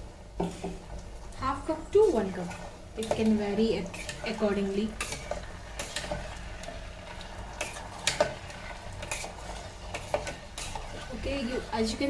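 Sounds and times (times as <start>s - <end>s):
spoon stirring thick gravy: 0.4s - 12.0s.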